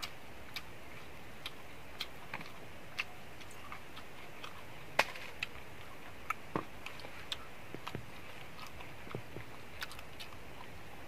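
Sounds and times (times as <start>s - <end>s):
sharp eating clicks: 0.0s - 11.0s.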